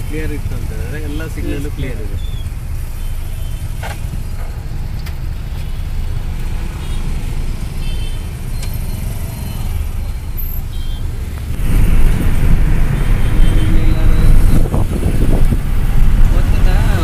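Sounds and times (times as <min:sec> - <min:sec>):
low engine rumble of vehicles: 0:00.0 - 0:17.0.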